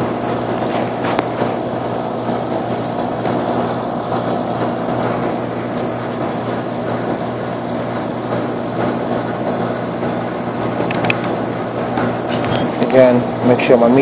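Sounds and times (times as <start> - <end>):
compressor humming: 0.0 - 14.0
fan rushing: 0.0 - 14.0.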